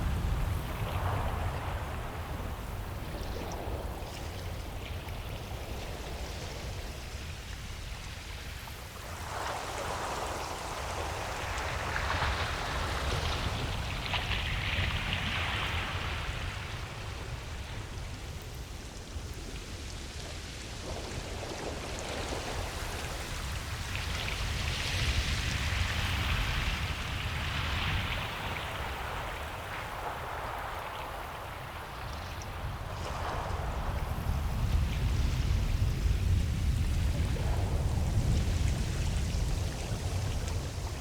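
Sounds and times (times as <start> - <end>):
ocean surf on beach: 0.0 - 41.0.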